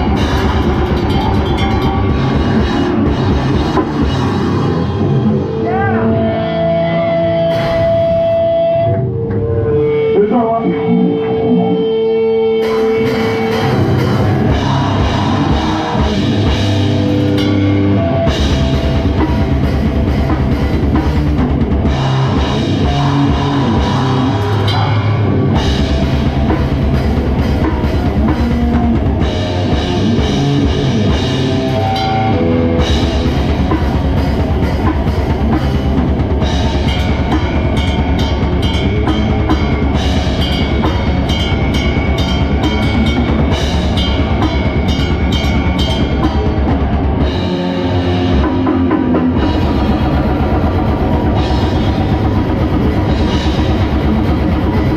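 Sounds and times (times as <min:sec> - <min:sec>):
very fast dense drumming: 0:00.0 - 0:06.1, 0:07.4 - 0:08.7, 0:12.6 - 0:54.9
band playing grindcore live: 0:00.0 - 0:54.9
heavy distorted guitars: 0:00.0 - 0:54.9.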